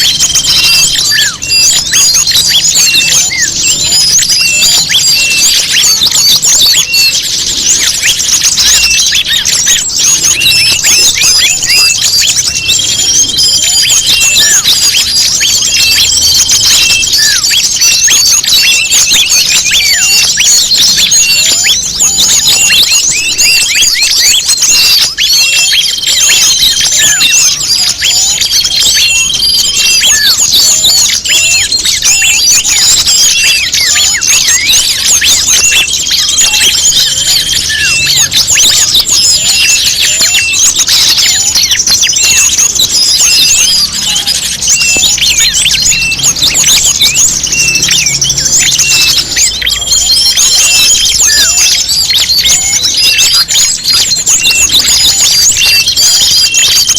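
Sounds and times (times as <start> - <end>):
short held bird whistle: 0.0 - 56.9
songbirds chirping and trilling: 0.0 - 56.9.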